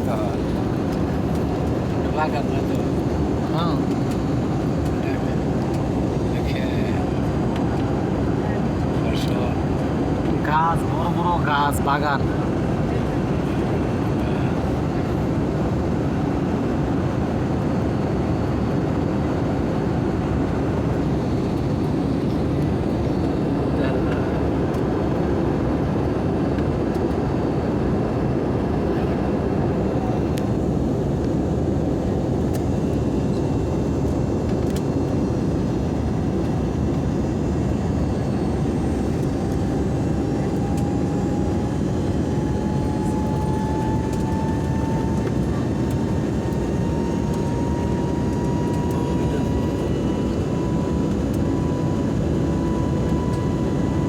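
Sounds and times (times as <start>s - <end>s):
airliner cabin engine noise: 0.0s - 54.0s.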